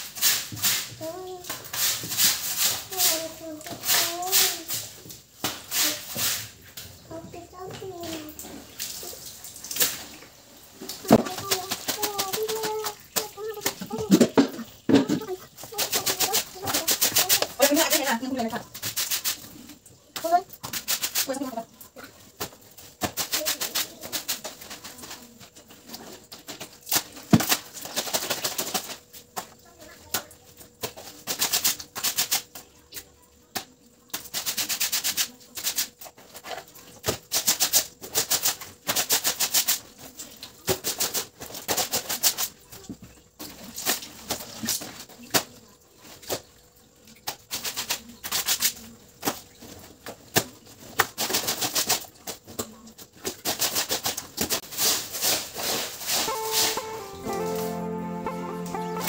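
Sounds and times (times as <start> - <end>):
laundry scrubbed on tiled floor: 0.0 - 7.2, 7.8 - 59.0.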